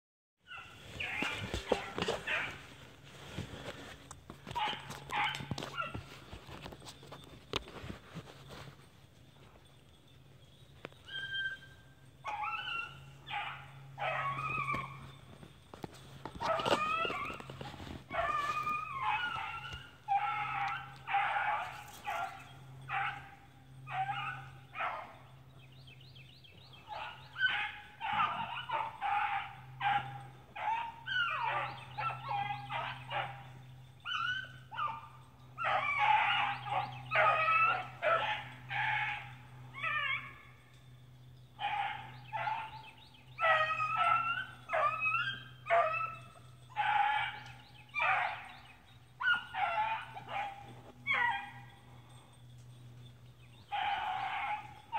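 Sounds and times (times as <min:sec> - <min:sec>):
hounds baying: 0:00.5 - 0:54.9.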